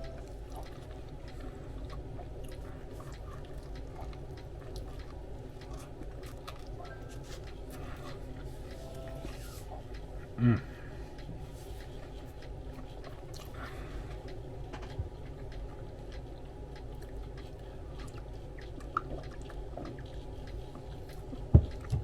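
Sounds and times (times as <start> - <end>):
person chewing: 0.0 - 10.1, 11.8 - 21.9
steady low hum: 0.0 - 22.0.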